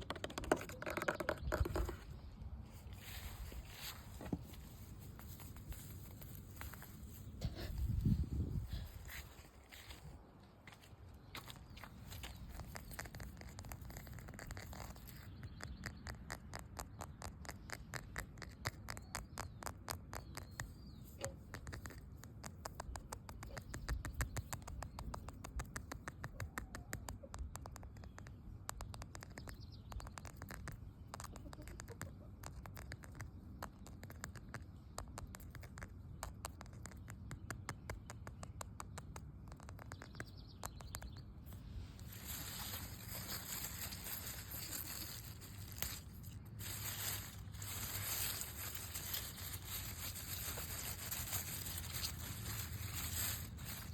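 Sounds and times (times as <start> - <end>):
rapid light tapping and scratching: 0.0 - 9.8, 11.3 - 53.9.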